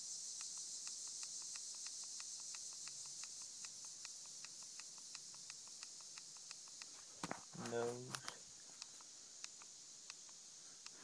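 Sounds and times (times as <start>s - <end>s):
insect chirping: 0.0s - 11.0s
insects hissing: 0.0s - 11.0s.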